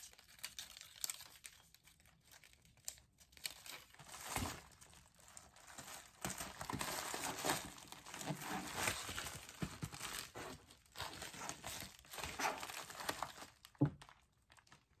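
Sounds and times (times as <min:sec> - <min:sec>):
plastic mailer crinkling: 0:00.0 - 0:15.0.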